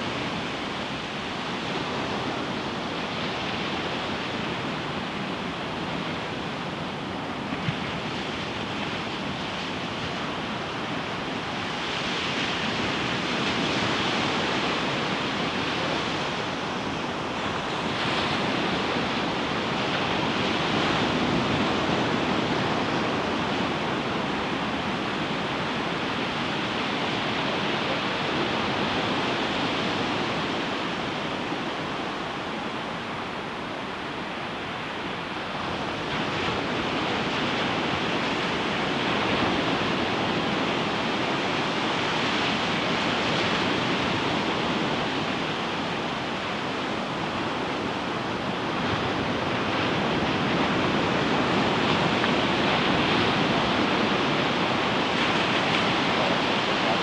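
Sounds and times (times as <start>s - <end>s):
ocean waves breaking on beach: 0.1s - 57.0s.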